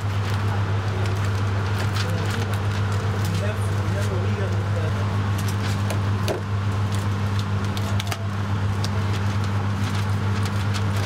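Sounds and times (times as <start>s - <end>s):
kitchen equipment humming: 0.0s - 11.0s.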